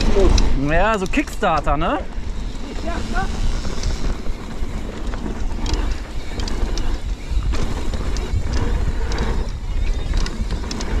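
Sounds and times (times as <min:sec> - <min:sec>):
bike clicking and rattling: 0:00.0 - 0:11.0
wind rumbling on microphone: 0:00.0 - 0:11.0.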